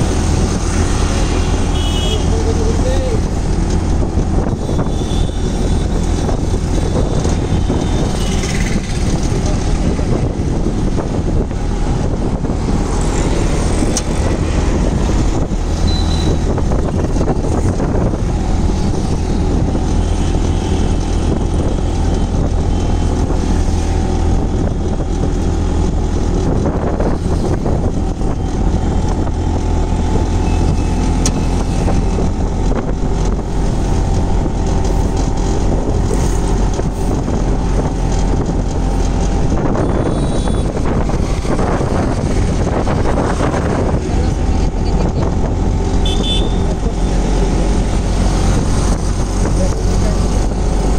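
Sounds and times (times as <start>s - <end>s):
wind buffeting microphone: 0.0s - 1.8s, 2.4s - 50.9s
street traffic rumble: 0.0s - 50.9s.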